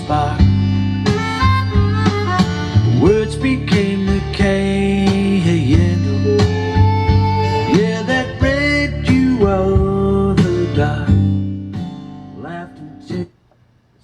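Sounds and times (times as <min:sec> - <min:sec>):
guitar music with singing on radio: 0:00.0 - 0:13.6.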